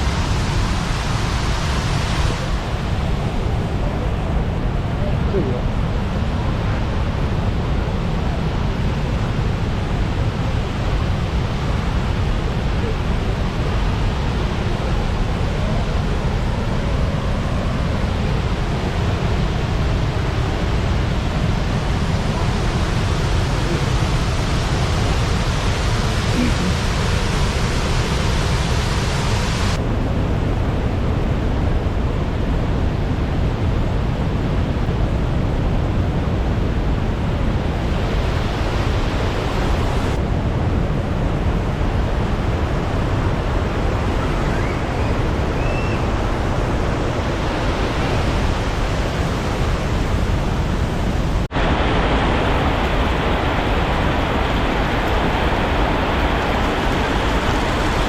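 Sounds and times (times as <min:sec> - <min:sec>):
loud steady rushing noise: 0:00.0 - 0:58.0.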